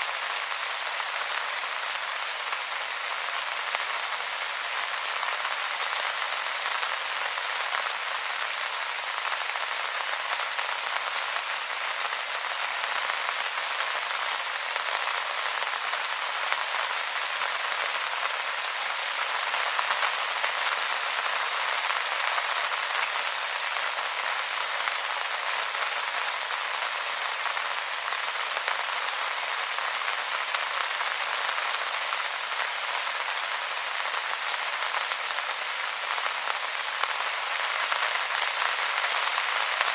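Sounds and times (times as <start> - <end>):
rain on wet leaves: 0.0 - 39.9.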